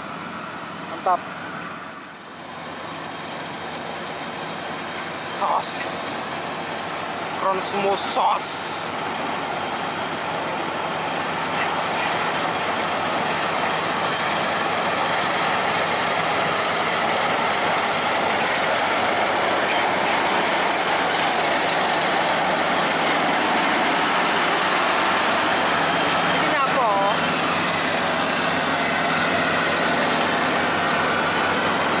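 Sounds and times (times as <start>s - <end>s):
combine harvester running: 0.0s - 32.0s.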